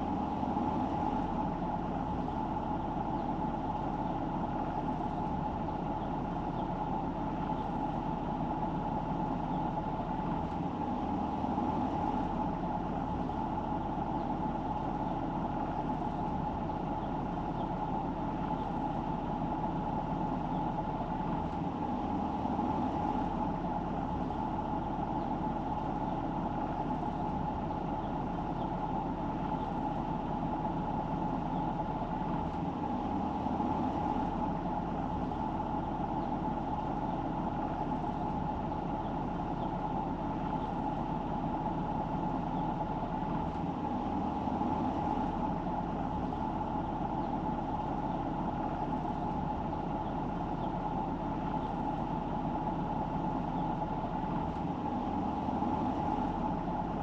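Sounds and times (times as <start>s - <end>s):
car engine and road noise: 0.0s - 57.0s
constant hum: 0.0s - 57.0s.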